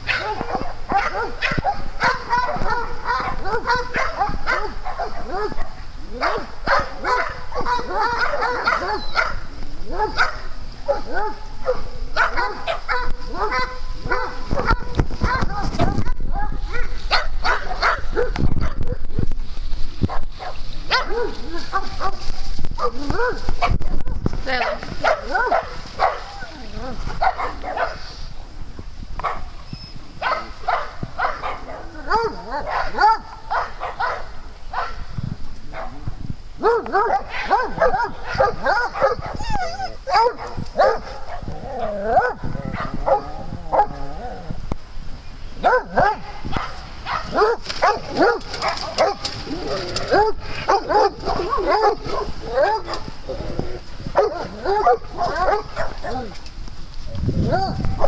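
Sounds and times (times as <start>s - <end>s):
dogs barking: 0.0s - 19.1s, 20.1s - 26.6s, 27.2s - 28.1s, 29.2s - 29.5s, 30.2s - 35.1s, 36.6s - 44.0s, 45.6s - 53.4s, 54.1s - 56.4s, 57.4s - 58.0s.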